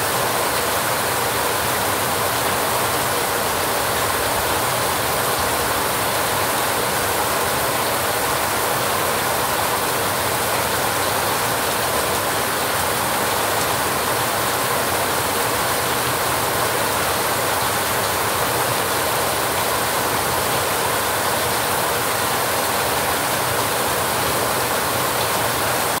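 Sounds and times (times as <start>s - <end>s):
heavy rain on a metal roof: 0.0s - 26.0s.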